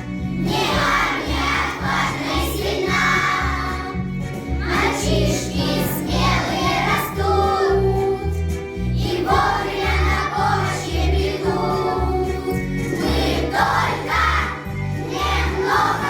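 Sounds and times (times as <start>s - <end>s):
children singing together: 0.4s - 4.0s, 4.6s - 8.4s, 9.0s - 16.0s.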